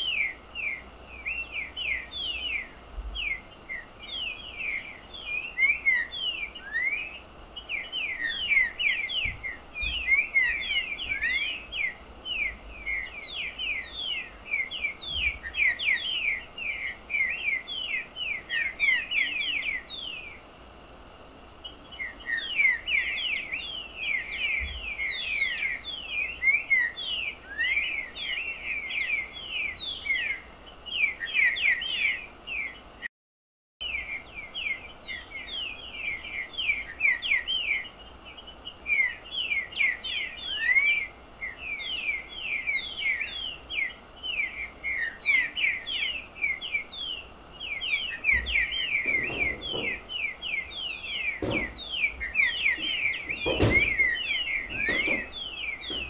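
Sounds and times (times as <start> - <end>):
bird singing fast chirps: 0.0 - 20.4, 21.6 - 33.1, 33.8 - 56.0.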